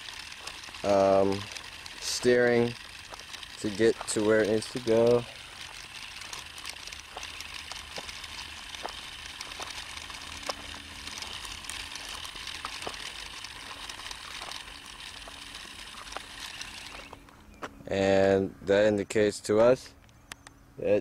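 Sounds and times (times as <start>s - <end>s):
toy electric motor whirring: 0.0s - 17.4s
tyres crunching on gravel: 0.0s - 18.2s.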